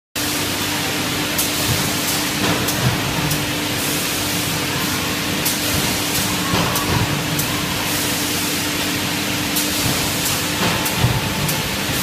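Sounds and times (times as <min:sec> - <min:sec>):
machine hissing: 0:01.4 - 0:12.0.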